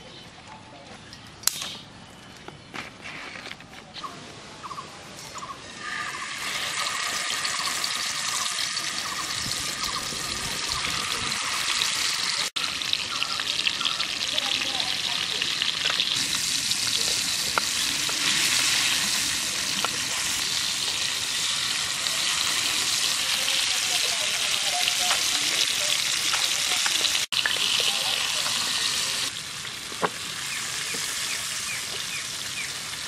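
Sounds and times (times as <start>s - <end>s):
fish frying in hot oil: 5.8s - 33.0s.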